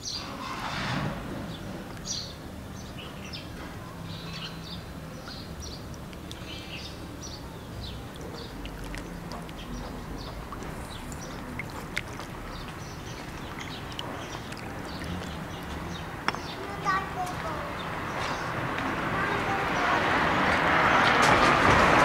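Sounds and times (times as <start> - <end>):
small birds chirping: 1.5 - 20.2.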